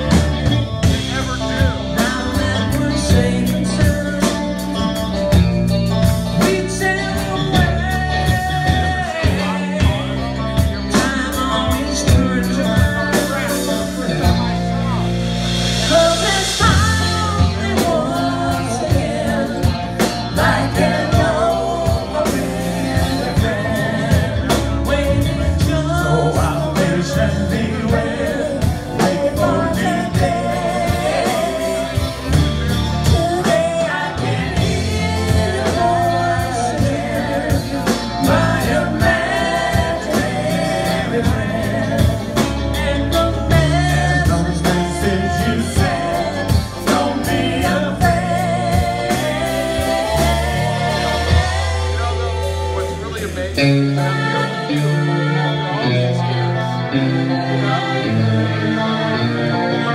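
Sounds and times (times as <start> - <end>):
person singing: 0.0 - 14.7, 15.7 - 59.9
drum kit beat: 0.0 - 55.7
bass guitar: 0.0 - 59.9
electric guitars: 0.0 - 59.9
keyboards: 0.0 - 59.9.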